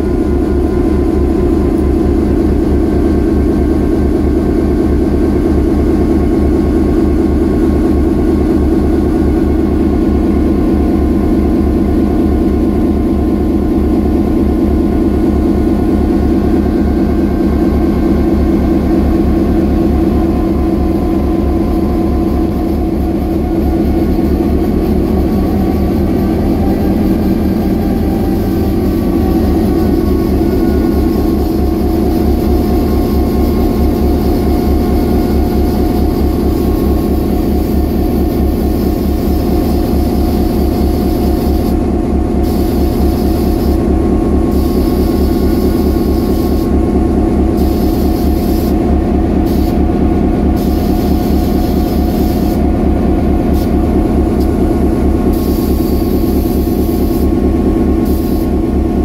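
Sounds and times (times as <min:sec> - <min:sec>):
diesel locomotive engine running: 0:00.0 - 0:59.0.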